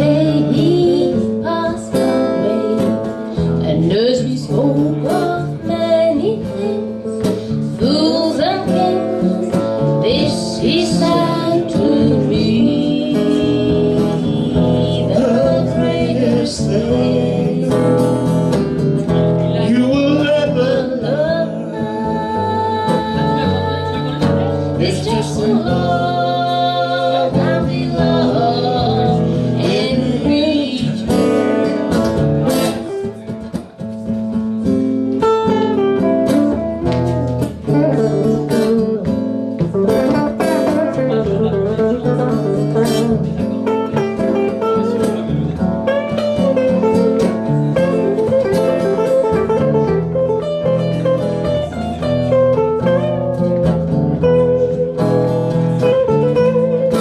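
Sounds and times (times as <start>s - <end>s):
acoustic guitar picked and strummed: 0.0s - 57.0s.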